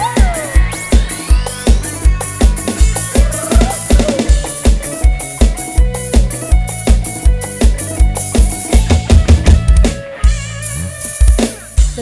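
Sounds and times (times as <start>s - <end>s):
bass: 0.0s - 12.0s
live band music over loudspeakers: 0.0s - 12.0s
rapid drum fill: 0.0s - 12.0s.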